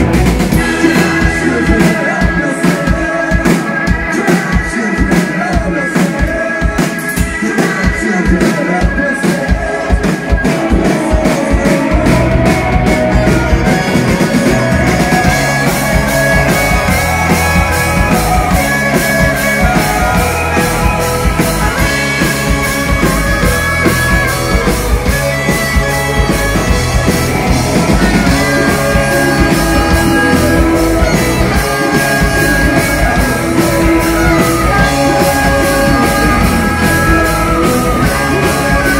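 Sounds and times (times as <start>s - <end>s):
bass guitar: 0.0s - 38.9s
drums: 0.0s - 38.9s
electric guitar: 0.0s - 38.9s
rock band playing live: 0.0s - 38.9s.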